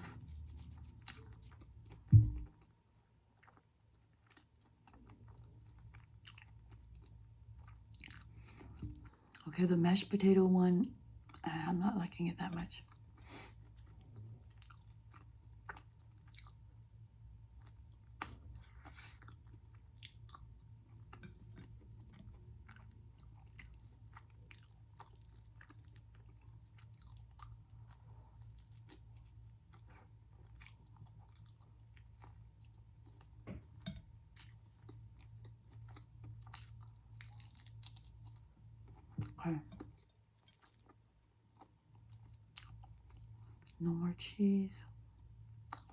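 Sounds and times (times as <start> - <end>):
faint low hum: 0.0 - 45.9
chewing and crunching food: 0.1 - 10.0, 11.0 - 44.0, 44.8 - 45.9.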